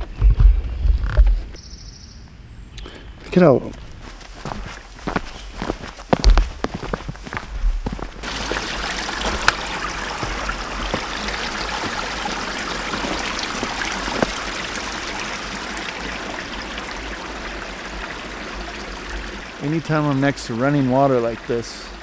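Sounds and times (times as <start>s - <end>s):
creek water babbling over rocks: 4.0s - 22.0s.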